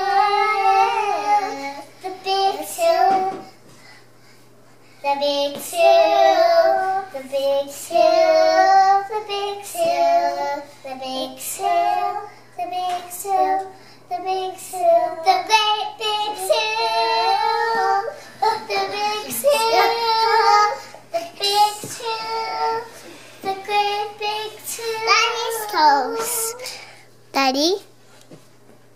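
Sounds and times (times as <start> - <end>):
young children singing: 0.0 - 3.5, 5.1 - 26.8.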